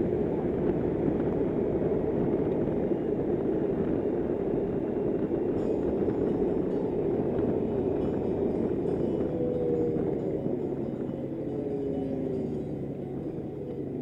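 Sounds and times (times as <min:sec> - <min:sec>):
motorcycle wind and road noise: 0:00.0 - 0:14.0.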